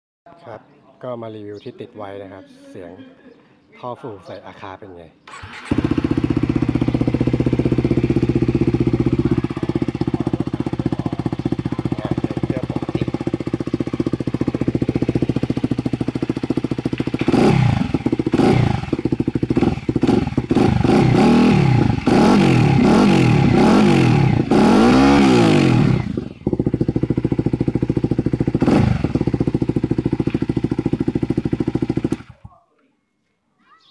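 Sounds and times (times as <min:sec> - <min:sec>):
motorcycle engine revving: 0:05.3 - 0:32.5.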